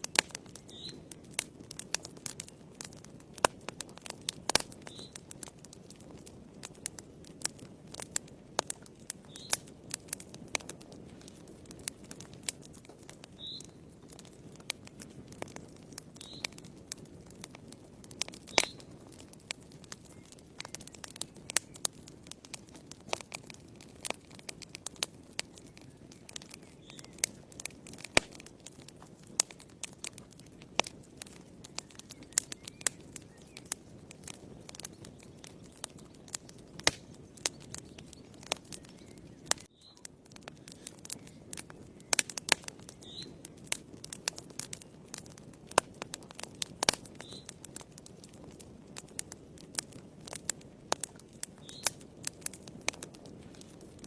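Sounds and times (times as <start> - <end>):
low rustle of flames: 0.0 - 54.0
wood fire crackling and popping: 0.0 - 54.0.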